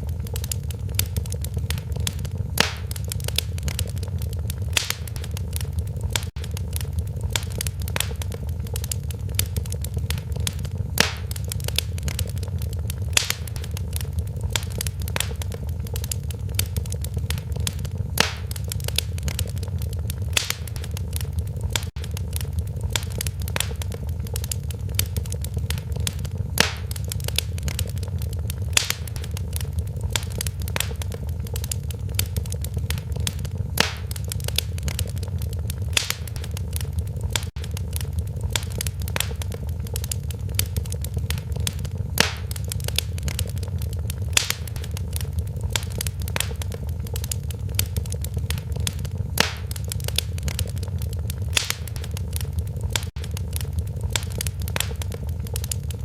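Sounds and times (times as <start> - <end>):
loud pops from fire: 0.0 - 56.0
wood fire crackling: 0.0 - 56.0.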